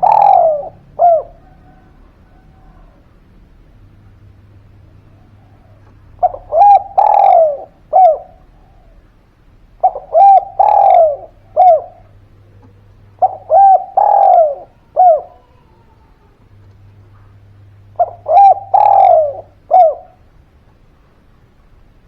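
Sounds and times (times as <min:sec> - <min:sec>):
dove cooing: 0:00.0 - 0:03.3, 0:04.8 - 0:09.2, 0:09.8 - 0:20.3.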